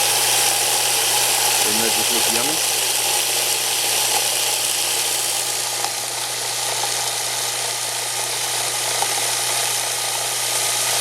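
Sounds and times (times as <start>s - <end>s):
garbage disposal running: 0.0s - 11.0s.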